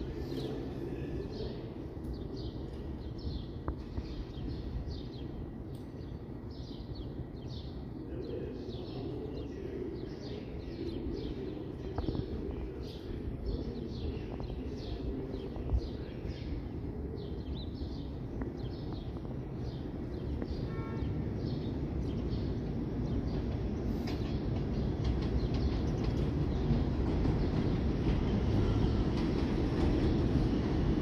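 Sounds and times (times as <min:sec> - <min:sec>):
subway train rumble: 0:00.0 - 0:31.0
small birds chirping: 0:00.2 - 0:31.0.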